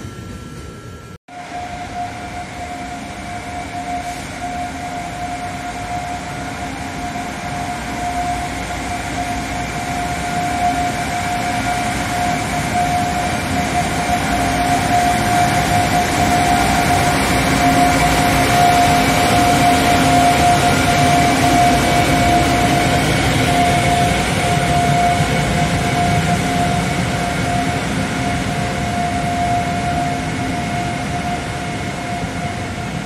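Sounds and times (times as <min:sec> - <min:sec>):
electric locomotive whine: 0:00.0 - 0:33.0
wheels rumbling on rail: 0:00.0 - 0:33.0.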